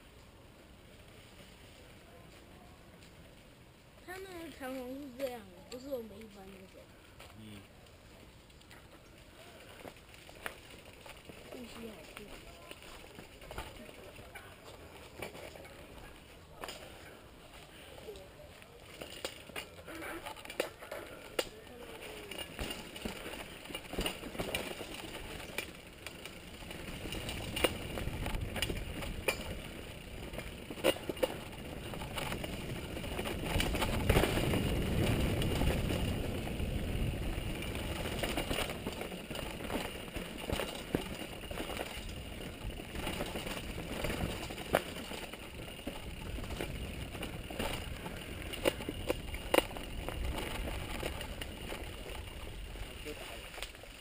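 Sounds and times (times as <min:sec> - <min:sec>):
bike clicks and rattles: 0:08.4 - 0:54.0
tyres crunching over gravel: 0:08.4 - 0:54.0.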